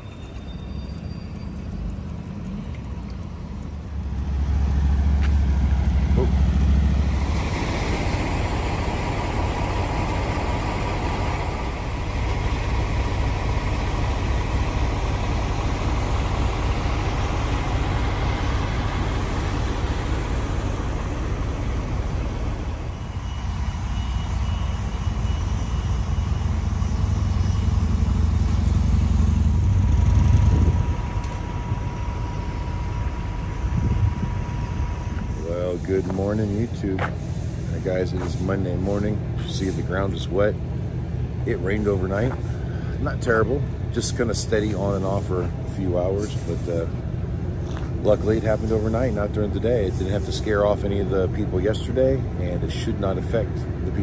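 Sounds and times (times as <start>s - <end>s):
vehicle engines rumbling: 0.0s - 54.0s.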